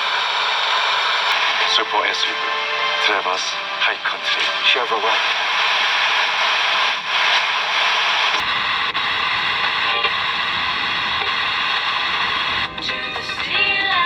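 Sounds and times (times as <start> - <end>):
music from radio: 0.0 - 14.0
radio static hiss: 0.0 - 14.0.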